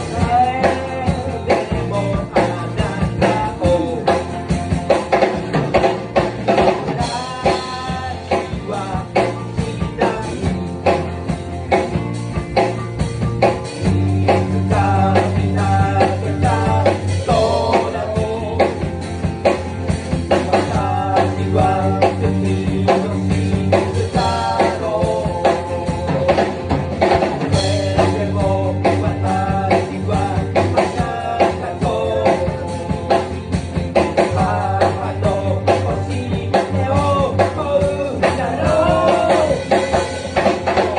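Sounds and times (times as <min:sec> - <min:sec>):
person singing: 0:00.0 - 0:04.5, 0:06.5 - 0:11.1, 0:14.2 - 0:19.1, 0:20.3 - 0:26.8, 0:27.4 - 0:40.9
rock band playing: 0:00.0 - 0:40.9.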